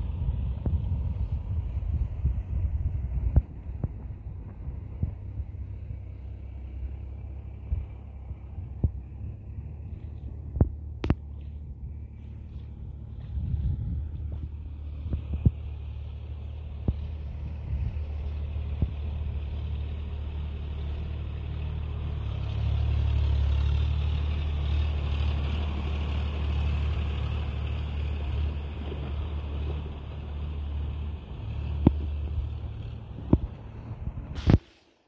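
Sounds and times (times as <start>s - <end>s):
tractor diesel engine running: 0.0s - 34.7s.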